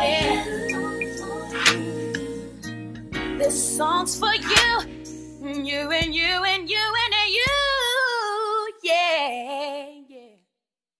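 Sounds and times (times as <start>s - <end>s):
person singing: 0.0s - 10.4s.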